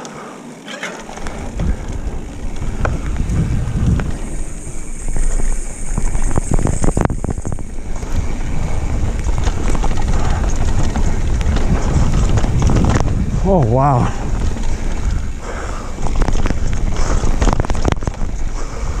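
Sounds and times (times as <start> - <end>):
tyre noise on dirt: 0.0 - 19.0
bike knocks and rattles: 0.7 - 13.4, 14.1 - 19.0
wind rushing over microphone: 1.2 - 19.0.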